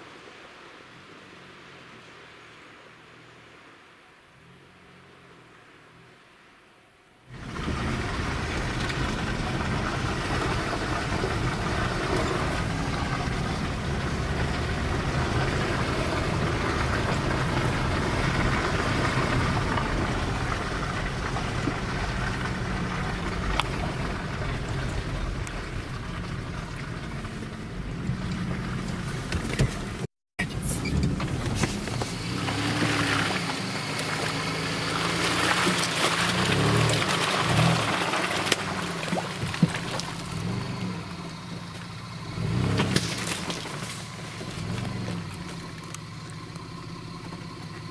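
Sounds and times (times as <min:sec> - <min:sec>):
suv engines under load: 0:07.2 - 0:47.9
tyres churning and splashing mud: 0:07.3 - 0:47.9.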